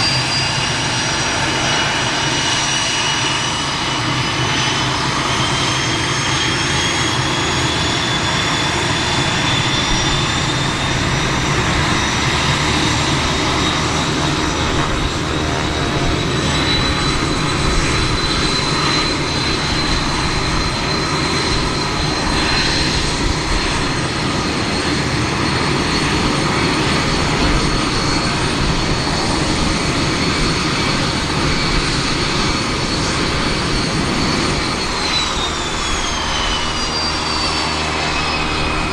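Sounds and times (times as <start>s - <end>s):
jet engine roar with high whine: 0.0s - 38.9s.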